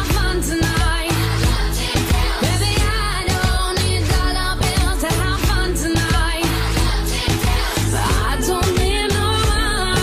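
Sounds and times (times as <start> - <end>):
pop music with singing: 0.0 - 10.0.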